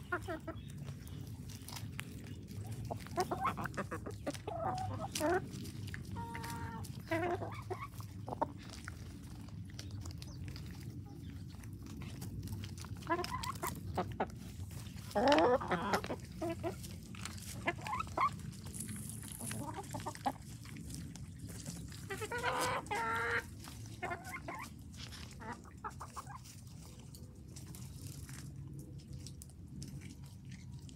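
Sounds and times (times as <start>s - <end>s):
beaks pecking at ground: 0.0s - 30.9s
hens clucking: 0.0s - 30.9s.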